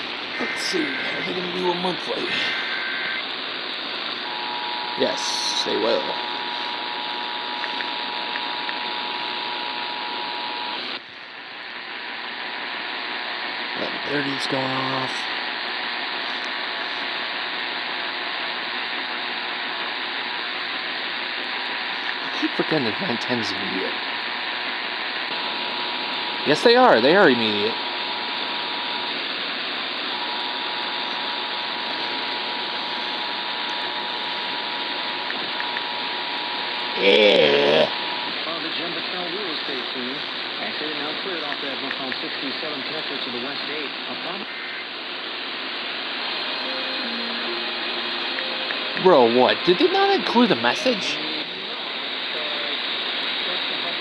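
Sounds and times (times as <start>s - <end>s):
broadcast hiss: 0.0s - 54.0s
radio static: 0.0s - 54.0s.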